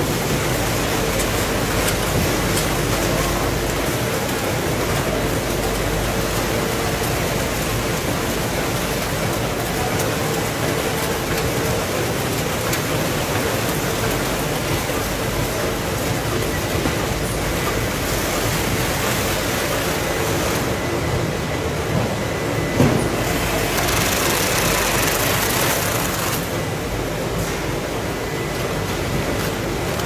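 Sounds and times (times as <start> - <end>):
factory machinery running: 0.0 - 30.0.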